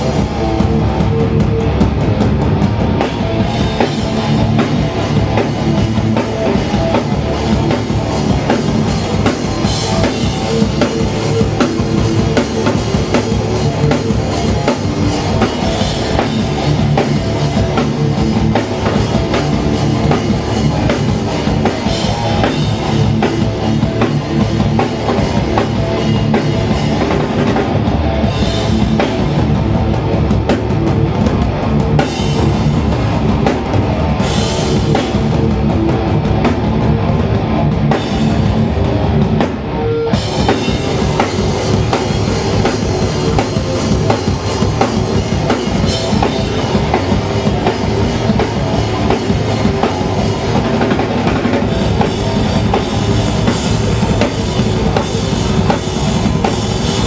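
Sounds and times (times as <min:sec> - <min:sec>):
bass guitar: 0:00.0 - 0:57.0
distorted electric guitars: 0:00.0 - 0:57.0
fast drum kit beats: 0:00.0 - 0:57.0.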